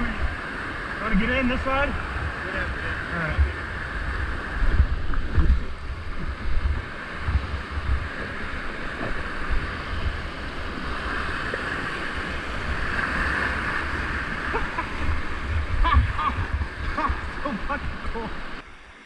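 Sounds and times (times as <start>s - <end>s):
wind rumble on microphone: 0.0s - 18.9s
rushing whitewater rapids: 0.0s - 19.0s.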